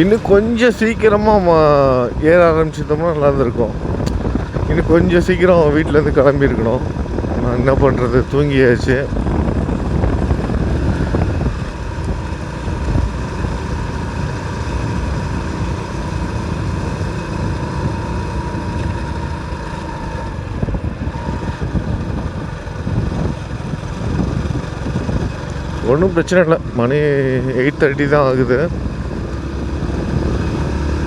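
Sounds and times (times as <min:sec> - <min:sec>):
motorcycle engine rumbling: 0:00.0 - 0:31.0
road noise: 0:00.0 - 0:31.0.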